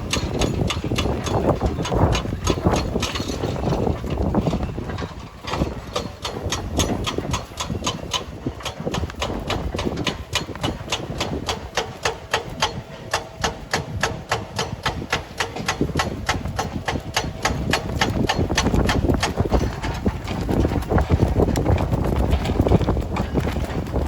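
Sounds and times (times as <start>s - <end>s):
machine rumbling: 0.0s - 24.0s
rapid even clacking: 0.0s - 24.0s.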